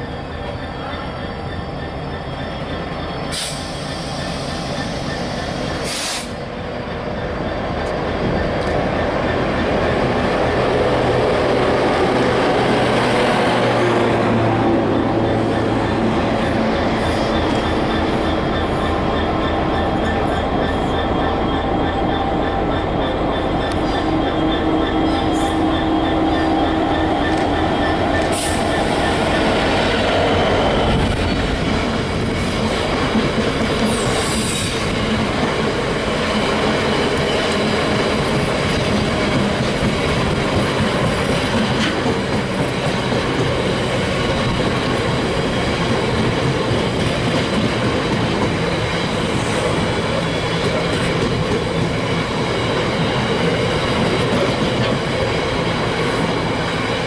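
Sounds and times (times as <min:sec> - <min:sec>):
diesel locomotive engine droning: 0:00.0 - 0:57.0
freight train wheels clattering: 0:00.0 - 0:57.0.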